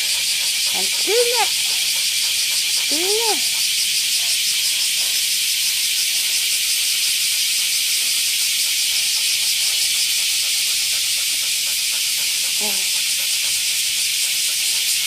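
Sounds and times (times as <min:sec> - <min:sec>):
cicadas hissing: 0:00.0 - 0:15.0.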